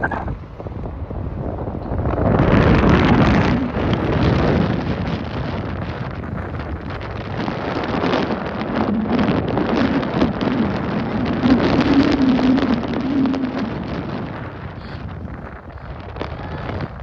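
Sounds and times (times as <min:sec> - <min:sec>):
low wavering hum: 0:00.0 - 0:17.0
wind buffeting microphone: 0:00.0 - 0:17.0.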